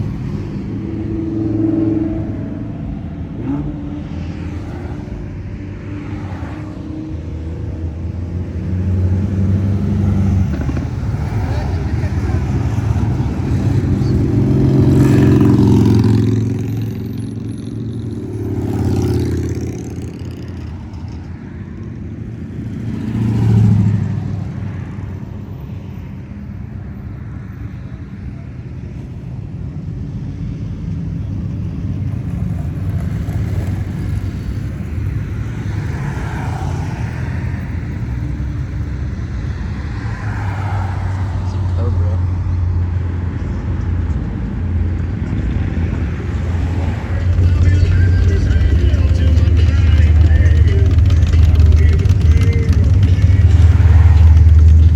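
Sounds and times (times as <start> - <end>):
cars driving past: 0.0 - 54.9
steady traffic noise: 0.0 - 54.9.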